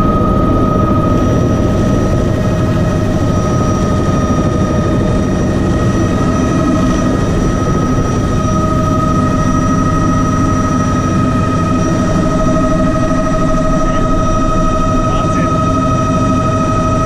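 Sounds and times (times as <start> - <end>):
helicopter turbine whine: 0.0 - 17.0.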